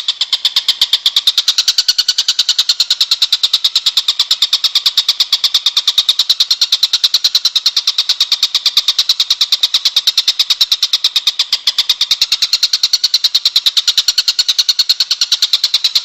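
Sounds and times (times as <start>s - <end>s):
songbird high trill: 0.0s - 16.0s.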